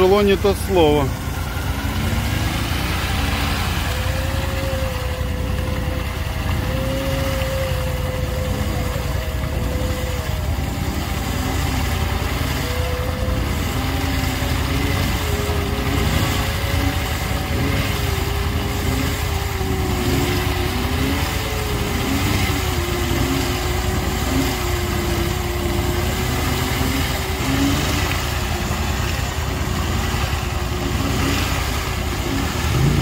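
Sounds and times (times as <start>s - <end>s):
vehicle engine running with whine: 0.0s - 33.0s.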